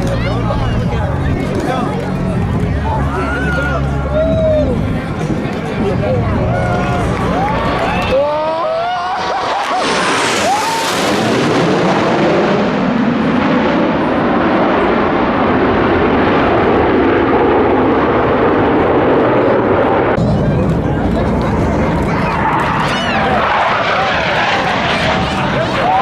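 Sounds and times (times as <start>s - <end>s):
fighter jets roaring past: 2.9s - 26.0s.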